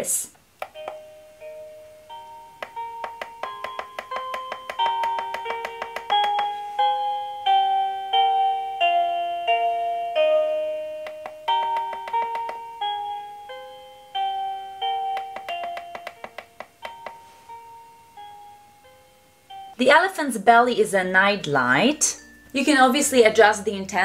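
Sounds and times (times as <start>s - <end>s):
bell-like lullaby chime notes: 0.8s - 16.2s, 16.8s - 19.8s, 21.4s - 24.0s.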